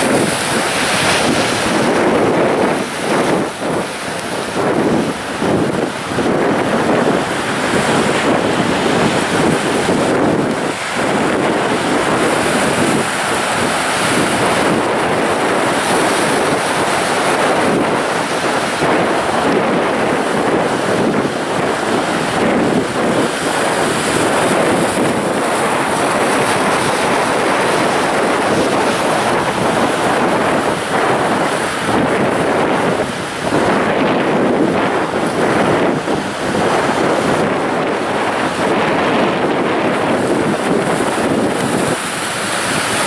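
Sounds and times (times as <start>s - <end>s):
sea waves breaking over rocks: 0.0s - 43.0s.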